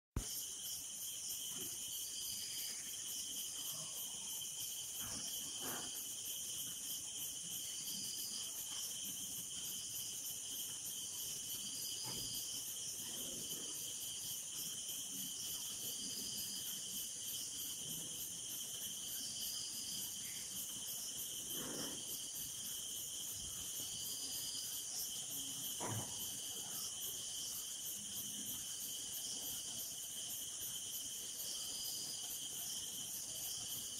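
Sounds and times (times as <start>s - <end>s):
insect chirp: 0.2s - 33.9s
night insects trilling: 0.2s - 33.9s.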